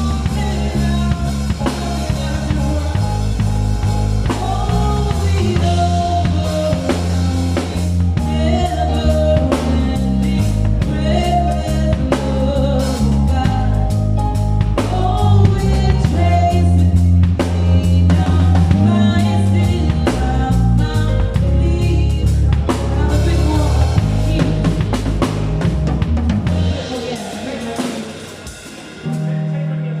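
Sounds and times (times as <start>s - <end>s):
person singing: 0.0s - 25.3s, 26.4s - 30.0s
bass notes: 0.0s - 30.0s
drum kit beat: 0.0s - 30.0s.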